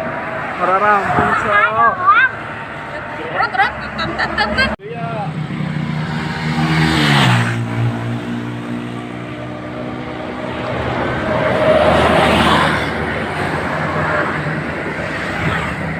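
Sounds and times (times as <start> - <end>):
road noise of passing traffic: 0.0 - 15.9.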